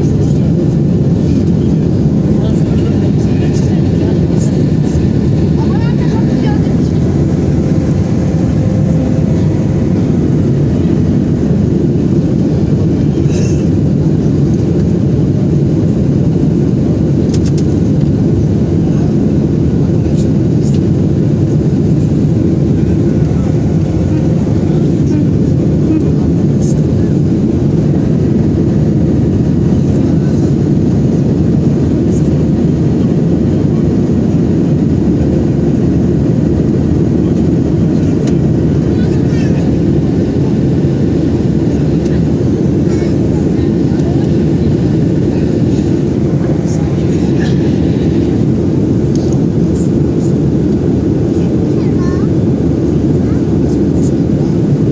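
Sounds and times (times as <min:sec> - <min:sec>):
airliner cabin engine roar: 0:00.0 - 0:54.9.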